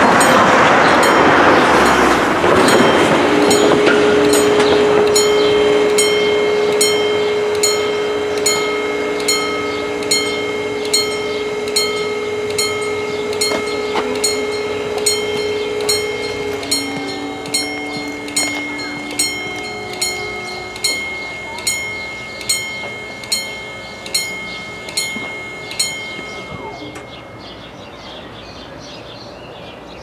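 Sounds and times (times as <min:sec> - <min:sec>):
level crossing bells ringing: 0:00.0 - 0:29.1
barrier motors humming: 0:00.0 - 0:29.3.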